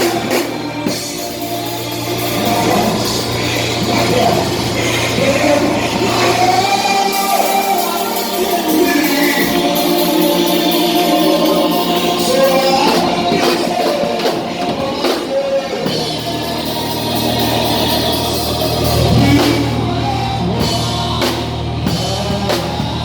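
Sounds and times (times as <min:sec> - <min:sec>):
bass: 0:00.0 - 0:23.0
music with singing voices: 0:00.0 - 0:23.0.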